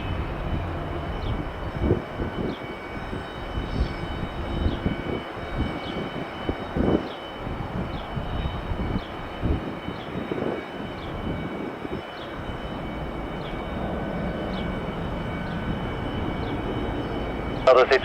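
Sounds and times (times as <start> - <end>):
jet engines drone: 0.0 - 18.0.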